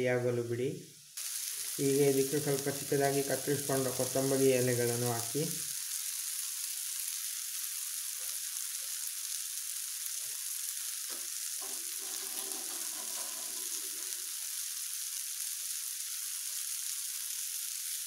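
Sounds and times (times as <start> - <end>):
masala sizzling in a pan: 0.0 - 18.0.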